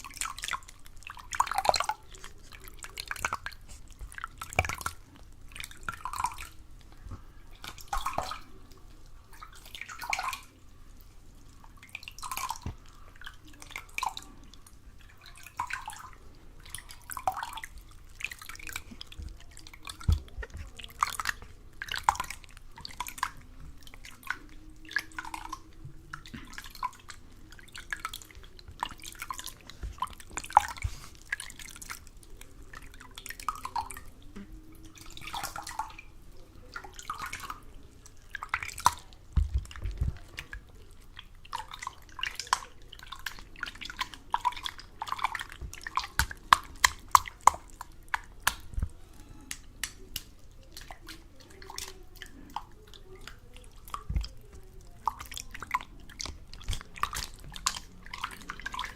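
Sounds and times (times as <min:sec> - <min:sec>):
wet clicks: 0:00.0 - 0:10.6, 0:11.7 - 0:58.9
small water splashes: 0:00.0 - 0:58.9
water drips: 0:00.0 - 0:58.9.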